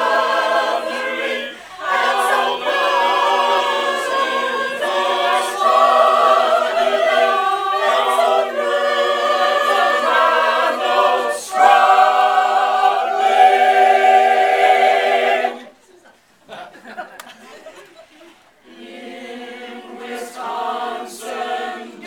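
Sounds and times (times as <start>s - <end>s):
mixed choir singing: 0.0s - 15.8s, 18.6s - 22.0s.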